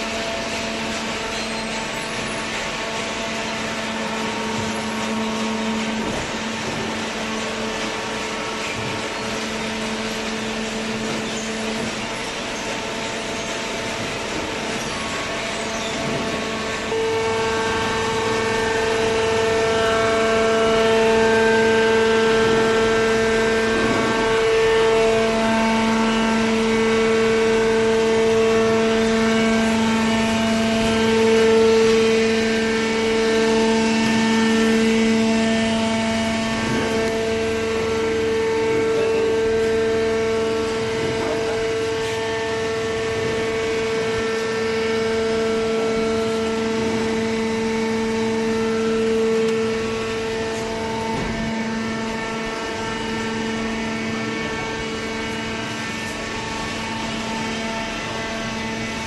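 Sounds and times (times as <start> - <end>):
baling machinery whine: 0.0 - 59.0.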